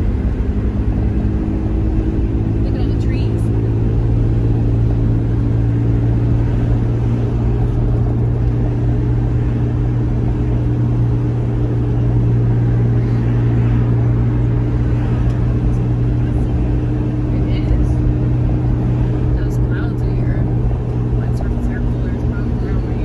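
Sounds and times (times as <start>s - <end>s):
car engine and road noise: 0.0s - 23.0s
constant low hum: 0.0s - 23.0s.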